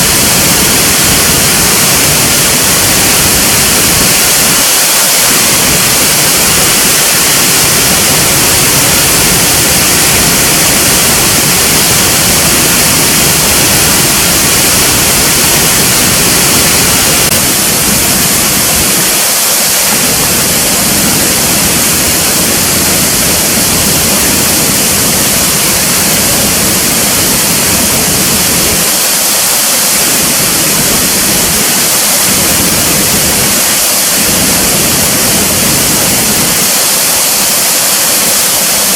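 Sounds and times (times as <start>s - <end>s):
falling water rushing: 0.0s - 38.9s.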